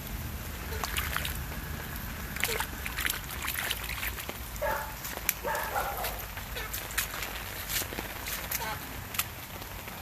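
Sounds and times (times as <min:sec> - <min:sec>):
water sloshing and splashing: 0:00.0 - 0:09.9
rain: 0:00.0 - 0:10.0.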